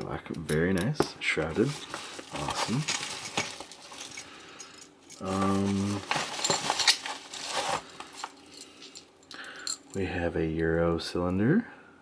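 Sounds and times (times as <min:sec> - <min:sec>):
metal locks and keys clinking: 0:00.0 - 0:10.0.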